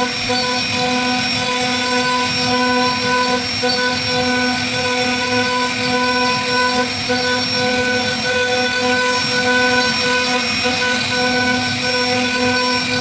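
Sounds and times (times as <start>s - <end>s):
router bit cutting wood: 0.0s - 13.0s
router spindle whine: 0.0s - 13.0s.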